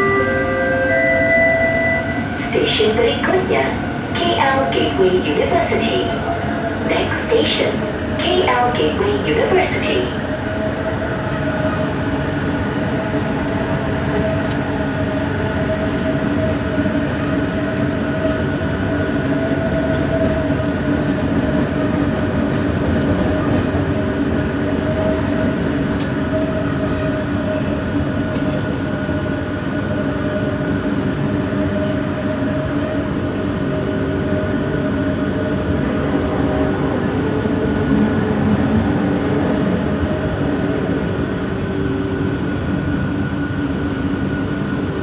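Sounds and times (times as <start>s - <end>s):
train rumble: 0.0s - 45.0s.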